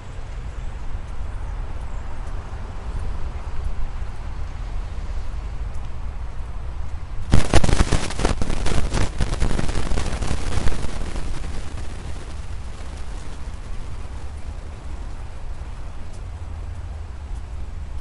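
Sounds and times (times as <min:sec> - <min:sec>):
wind buffeting microphone: 0:00.8 - 0:18.0.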